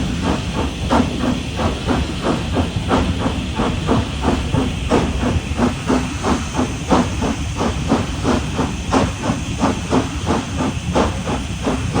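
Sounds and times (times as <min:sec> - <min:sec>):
steam hissing: 0:00.0 - 0:12.0
steam locomotive exhaust chuffs: 0:00.0 - 0:12.0.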